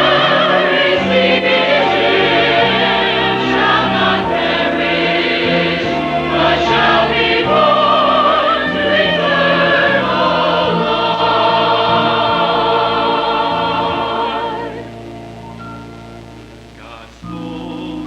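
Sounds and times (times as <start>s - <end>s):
choir singing in parts: 0.0s - 15.0s, 17.3s - 18.0s
instrumental accompaniment: 0.0s - 18.0s.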